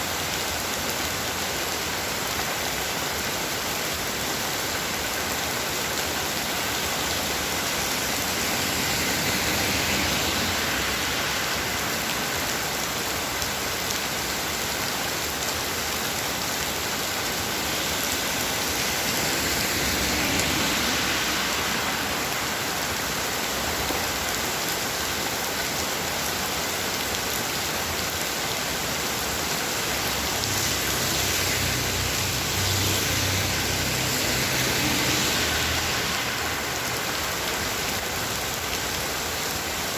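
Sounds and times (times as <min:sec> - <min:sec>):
heavy rain hissing: 0:00.1 - 0:39.9.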